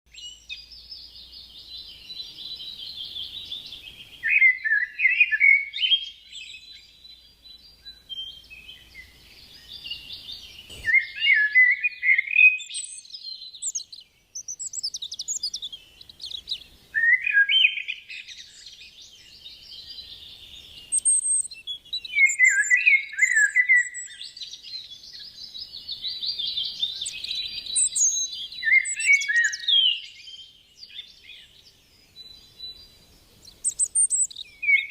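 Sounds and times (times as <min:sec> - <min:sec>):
songbird warbling: 0:00.1 - 0:34.9.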